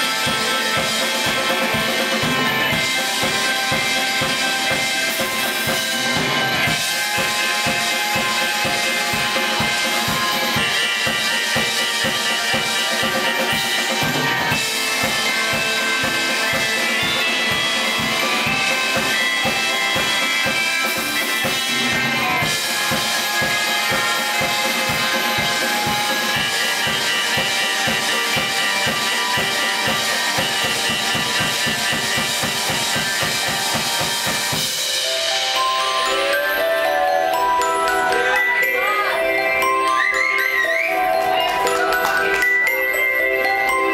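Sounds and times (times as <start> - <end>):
electric keyboards: 0.0 - 43.9
live band music: 0.0 - 43.9.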